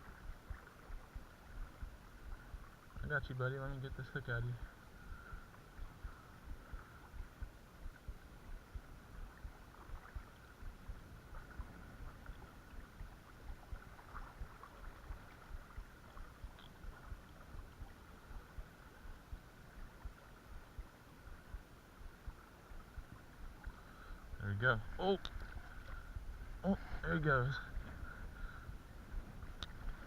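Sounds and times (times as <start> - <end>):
creek water running over rocks: 0.0 - 30.0.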